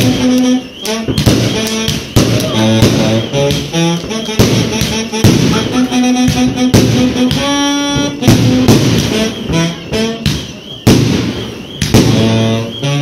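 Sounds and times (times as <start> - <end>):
brass or saxophone melody: 0.0 - 10.3, 12.0 - 13.0
fireworks bursting: 0.0 - 13.0.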